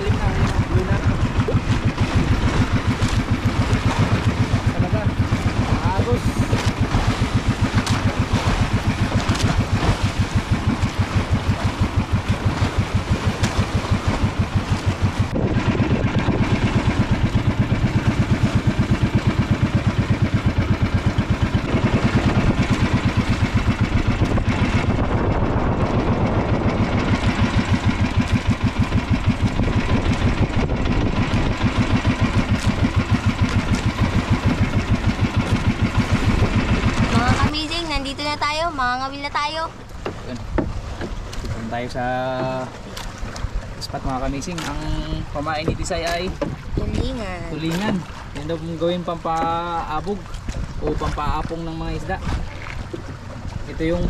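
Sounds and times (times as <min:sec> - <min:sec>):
boat engine chugging: 0:00.0 - 0:54.0
water splashing along hull: 0:00.0 - 0:54.0.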